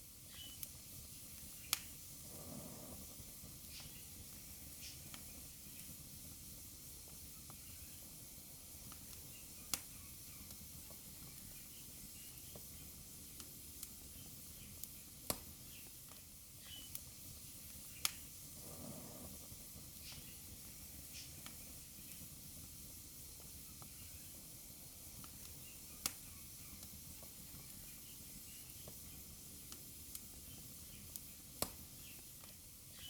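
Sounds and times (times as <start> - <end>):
fire crackling and popping: 0.0 - 33.0
fire hissing: 0.0 - 33.0.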